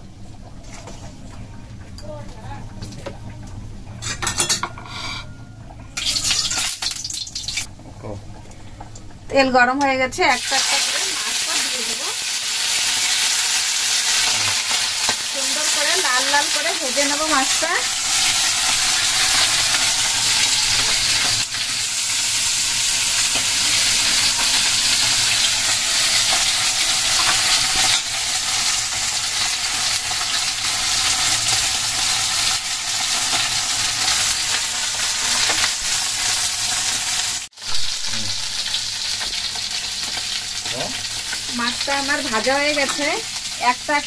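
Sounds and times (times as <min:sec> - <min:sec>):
fish frying in oil: 0:06.0 - 0:07.7, 0:10.3 - 0:44.0.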